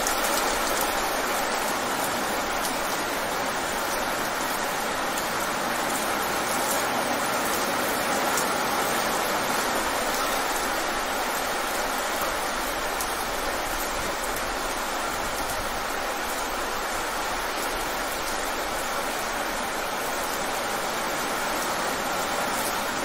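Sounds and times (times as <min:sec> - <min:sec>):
heavy rain on pavement: 0:00.0 - 0:23.0.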